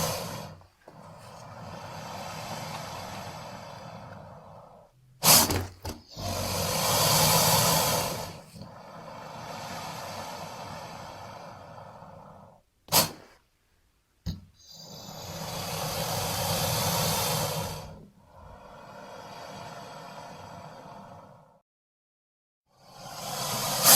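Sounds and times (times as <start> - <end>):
alligator hissing: 0.0 - 13.4, 14.6 - 21.6, 22.7 - 23.9.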